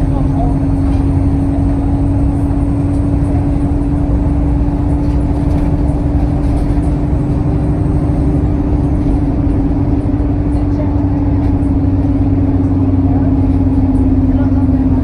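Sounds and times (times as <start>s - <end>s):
bus engine rumble: 0.0s - 15.0s
engine whine: 0.0s - 15.0s.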